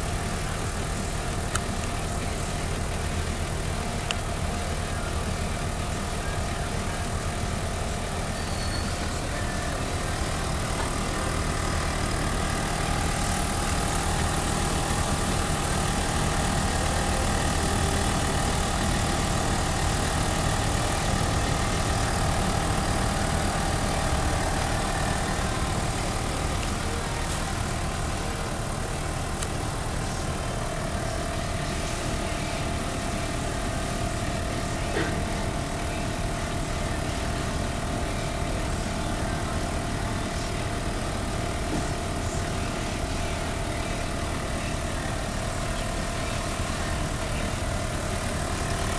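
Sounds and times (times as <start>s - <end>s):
air compressor running: 0.0s - 48.9s.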